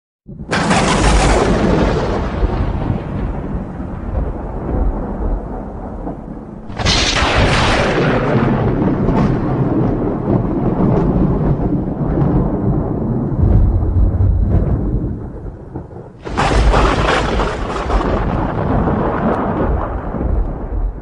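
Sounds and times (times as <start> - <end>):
sharp thunder crack: 0.3 - 21.0
thunder rumbling: 0.3 - 21.0.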